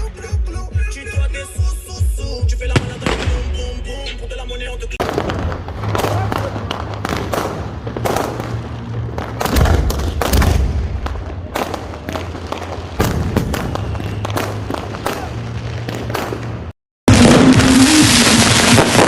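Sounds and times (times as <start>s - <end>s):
fireworks and firecrackers banging: 2.2s - 3.8s, 5.0s - 19.0s.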